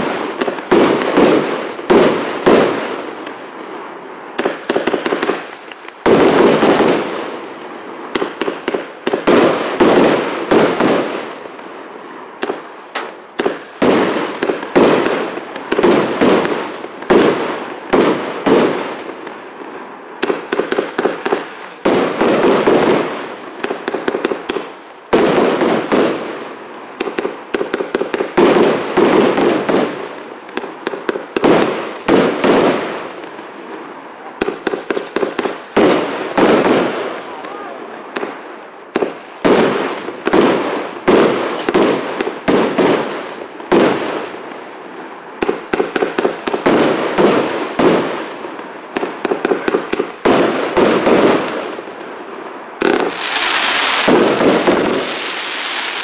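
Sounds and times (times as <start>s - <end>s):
firework shots and bursts: 0.0s - 56.0s.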